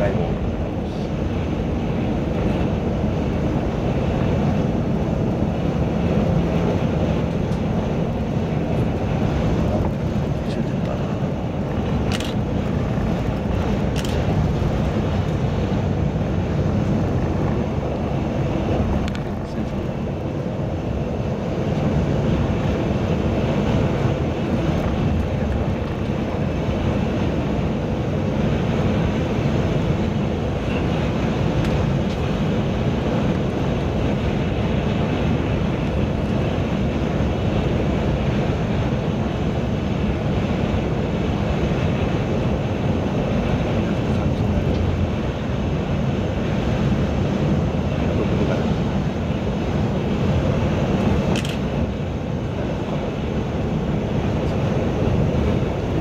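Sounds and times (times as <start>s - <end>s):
tyre and engine noise in car: 0.0s - 56.0s.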